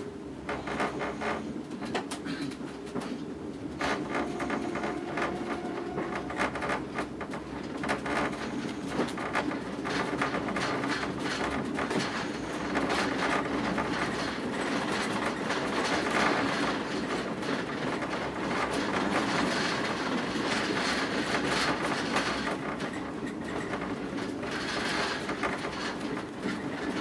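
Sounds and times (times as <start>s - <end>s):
train rumble and hiss: 0.0s - 27.0s
wheels clicking over rails: 0.3s - 27.0s.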